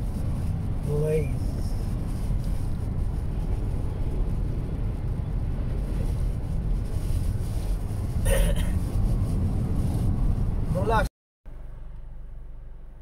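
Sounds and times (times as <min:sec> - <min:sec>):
car engine on highway: 0:00.0 - 0:13.0
tyre road noise: 0:00.0 - 0:13.0.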